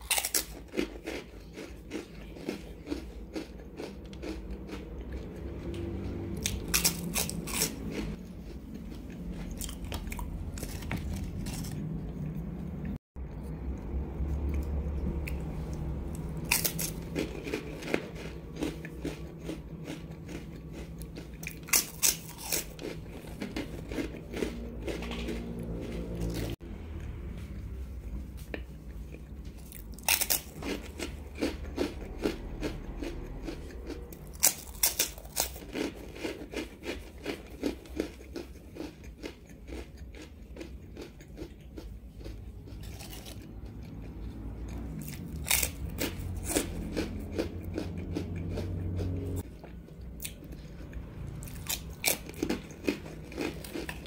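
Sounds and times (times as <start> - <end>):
crisp crunching of crackers: 0.0 - 12.1, 14.6 - 26.6, 28.5 - 54.0
quiet chewing: 0.0 - 54.0.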